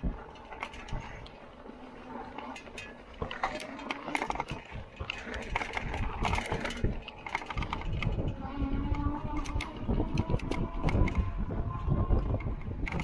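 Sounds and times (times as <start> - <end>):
electric bike rattling over dirt: 0.0 - 13.0.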